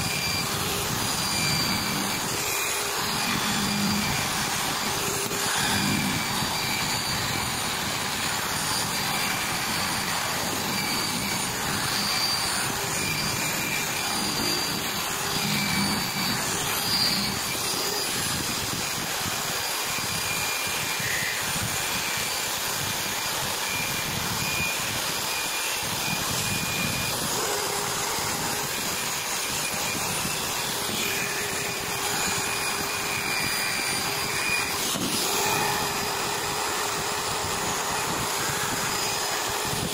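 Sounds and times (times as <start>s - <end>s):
wire brush wheel on metal: 0.0s - 39.9s.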